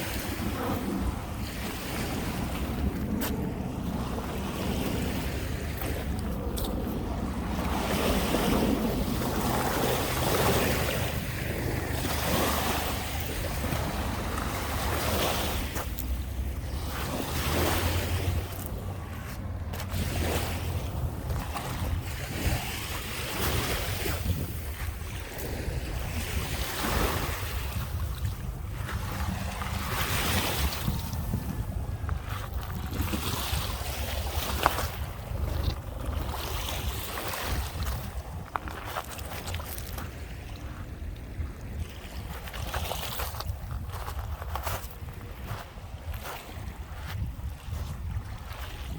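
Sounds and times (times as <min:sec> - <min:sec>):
waves washing onto shore: 0:00.0 - 0:48.9
wind rumbling on microphone: 0:00.0 - 0:48.9.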